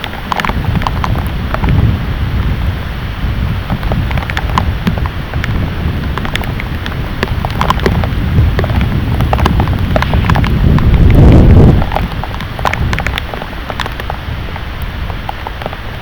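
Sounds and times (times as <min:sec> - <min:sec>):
heavy rain pouring: 0:00.0 - 0:16.0
low thunder rumble: 0:00.0 - 0:16.0.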